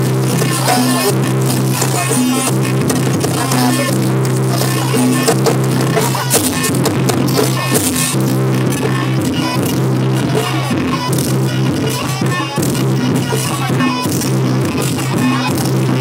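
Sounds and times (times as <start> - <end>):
rapid drum strokes: 0.0 - 16.0.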